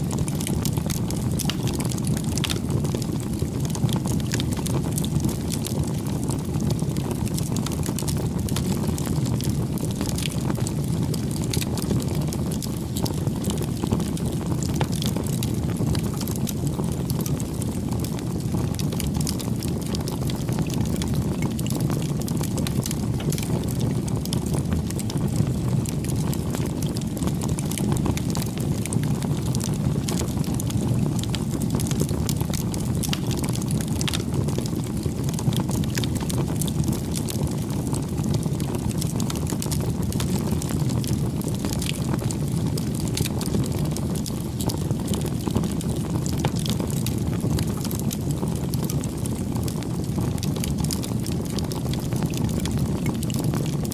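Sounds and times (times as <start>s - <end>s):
burning wood crackling: 0.0s - 53.9s
flames rushing: 0.0s - 53.9s.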